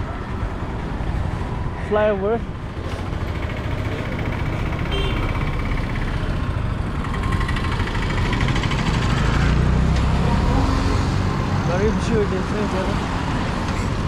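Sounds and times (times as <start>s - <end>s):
vehicle engine with road noise: 0.0s - 14.0s.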